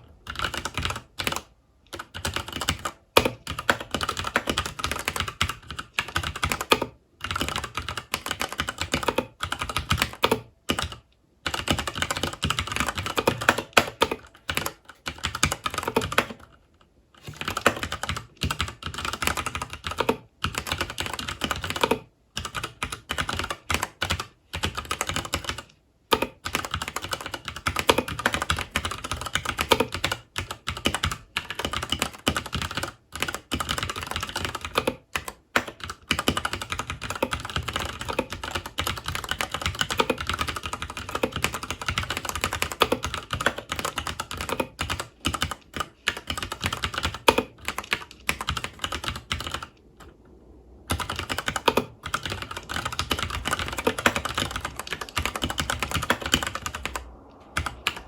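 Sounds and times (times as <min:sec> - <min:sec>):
typing on mechanical keyboard: 0:00.0 - 0:16.6, 0:17.2 - 0:49.8, 0:50.9 - 0:58.0.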